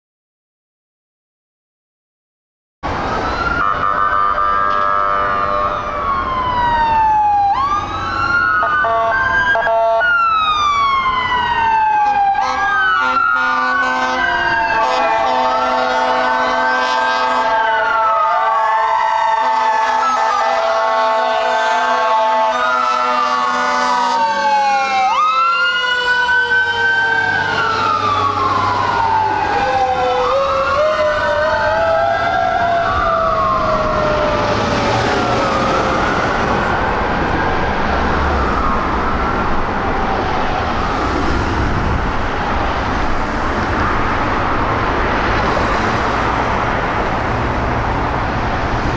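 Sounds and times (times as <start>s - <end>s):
truck engine: 2.8s - 18.6s, 19.2s - 48.9s
fire engine sirens wailing: 2.8s - 48.9s
traffic noise: 2.8s - 48.9s.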